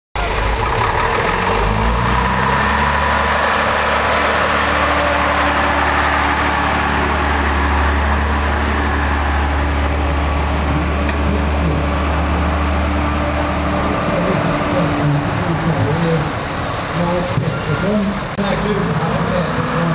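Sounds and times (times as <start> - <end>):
heavy truck engine running: 0.2 - 19.9.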